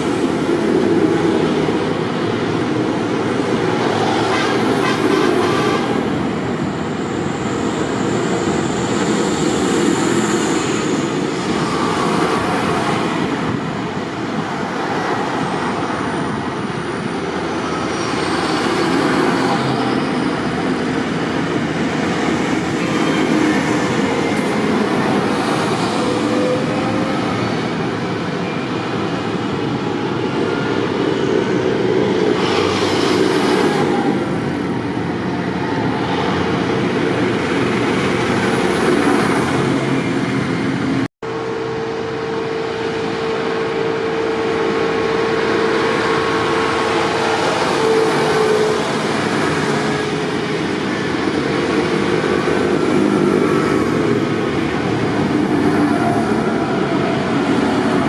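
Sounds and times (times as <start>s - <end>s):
tractor engines rumbling: 0.0s - 58.0s.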